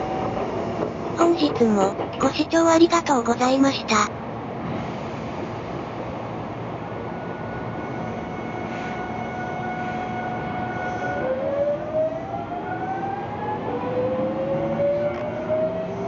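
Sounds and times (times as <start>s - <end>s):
electric train rushing noise: 0.0s - 3.3s, 4.1s - 16.0s.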